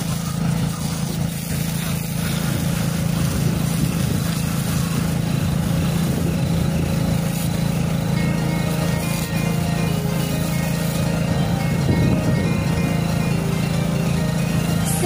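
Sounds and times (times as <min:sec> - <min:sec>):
hose spraying water: 0:00.0 - 0:15.0
motor drone: 0:00.0 - 0:15.0.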